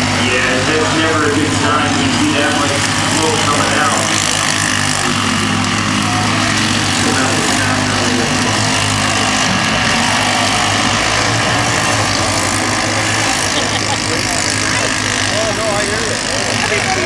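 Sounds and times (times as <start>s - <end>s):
small engines idling: 0.0s - 17.0s.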